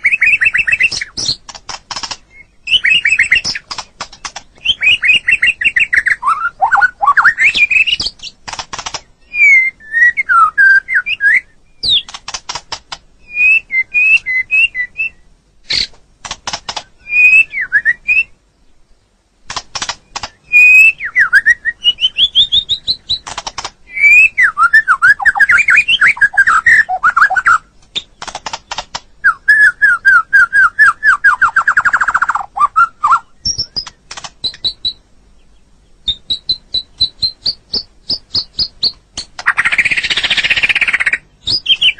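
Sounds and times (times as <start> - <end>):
songbird singing varied song: 0.0 - 41.9.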